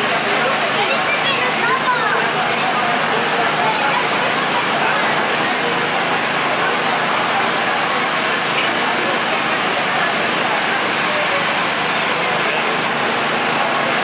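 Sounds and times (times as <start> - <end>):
faint indistinct chatter: 0.0 - 14.0
steady rushing crowd noise: 0.0 - 14.0.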